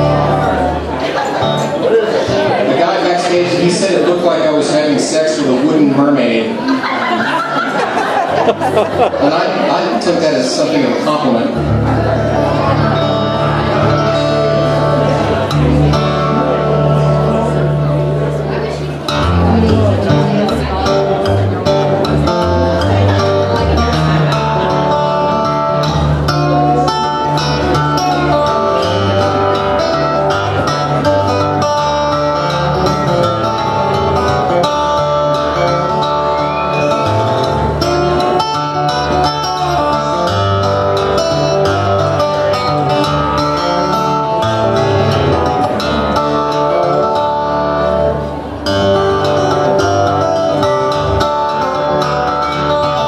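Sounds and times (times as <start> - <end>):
fingerstyle harp guitar: 0.0 - 6.5, 10.9 - 53.0.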